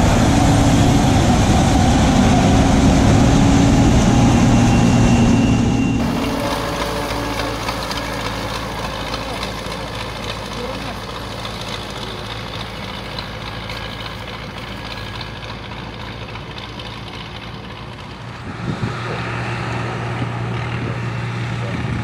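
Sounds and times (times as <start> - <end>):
deep diesel machinery drone: 0.0 - 22.0
tractor diesel engine running: 0.0 - 22.0.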